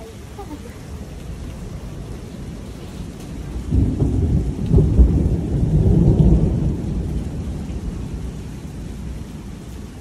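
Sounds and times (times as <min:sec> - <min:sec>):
steady rain: 0:00.0 - 0:10.0
thunder rumbling: 0:00.0 - 0:10.0.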